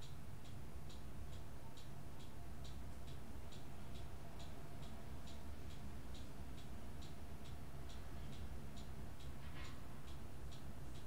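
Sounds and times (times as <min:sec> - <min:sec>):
low steady hum: 0:00.0 - 0:11.0
regular light ticking: 0:00.0 - 0:11.0.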